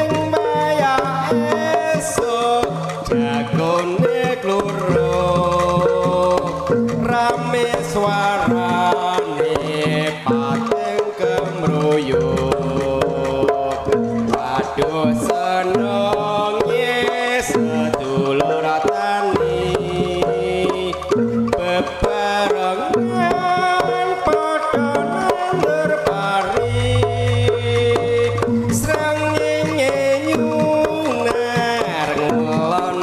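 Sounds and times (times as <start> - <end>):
fast melodic line: 0.0 - 33.0
hand drums beating: 0.0 - 33.0.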